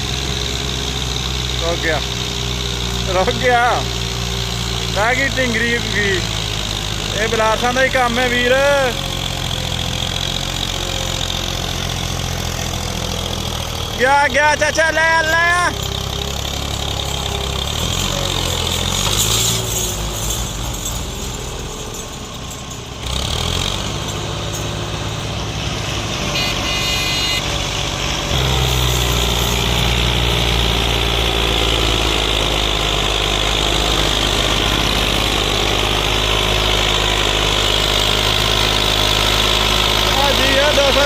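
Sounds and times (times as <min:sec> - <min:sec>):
tractor diesel engine working: 0:00.0 - 0:41.0.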